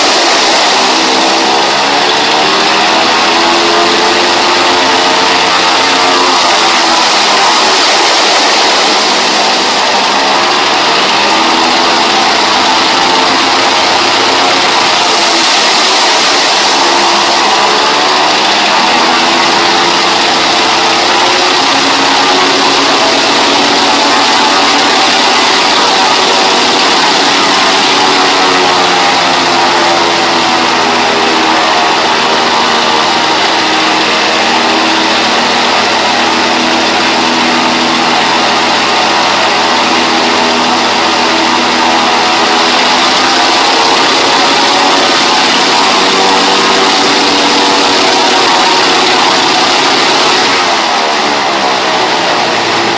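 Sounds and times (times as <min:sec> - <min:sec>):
radial aircraft engine running: 0:00.0 - 0:52.9.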